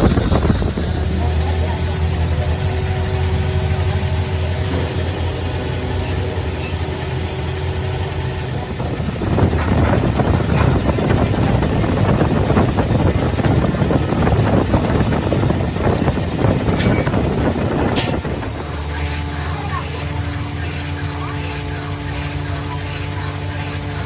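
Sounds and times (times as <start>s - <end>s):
low motor hum: 0.0s - 24.0s
rough grinding chatter: 0.0s - 24.0s.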